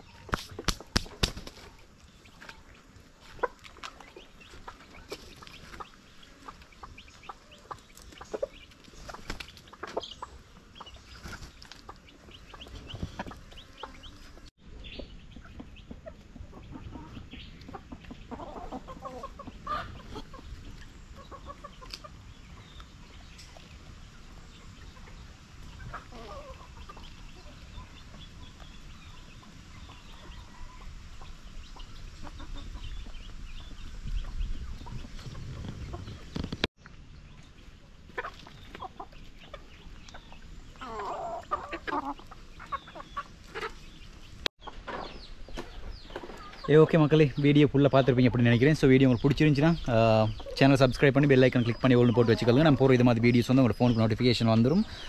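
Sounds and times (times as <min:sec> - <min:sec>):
chickens clucking softly: 0:00.0 - 0:36.7, 0:37.3 - 0:55.0
chickens pecking dirt: 0:00.0 - 0:55.0.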